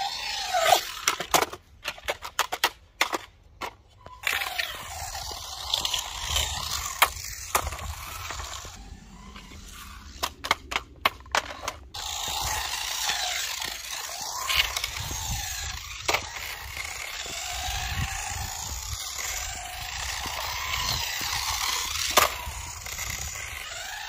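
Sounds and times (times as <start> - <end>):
rc motor whine: 0.0 - 1.5, 4.0 - 24.0
wheels rolling on concrete: 0.0 - 24.0.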